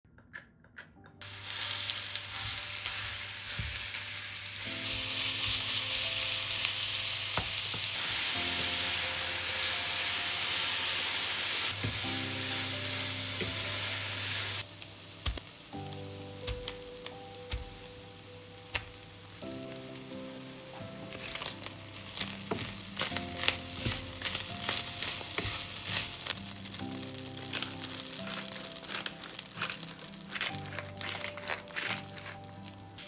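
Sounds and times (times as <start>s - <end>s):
meat sizzling in a pan: 1.2s - 33.0s.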